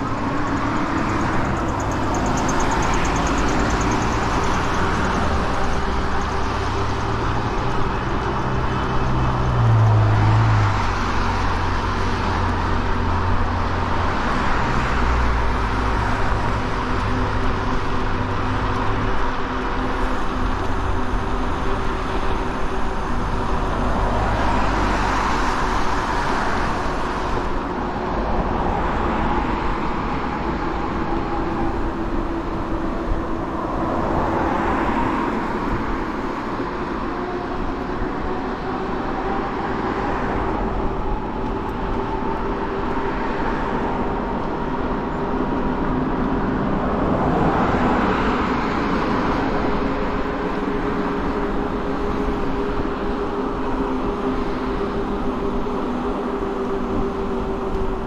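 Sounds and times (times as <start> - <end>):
cars passing: 0.0 - 58.0
hub motor whine: 0.0 - 58.0
wind and tyre noise: 0.0 - 58.0.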